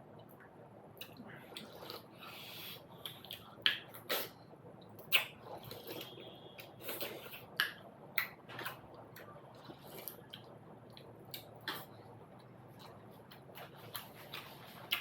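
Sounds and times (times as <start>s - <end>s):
person chewing and smacking: 1.0s - 15.0s.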